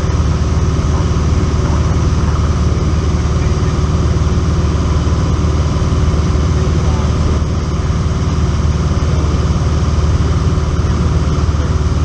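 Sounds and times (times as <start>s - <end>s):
airplane engine and propeller hum: 0.0s - 12.0s.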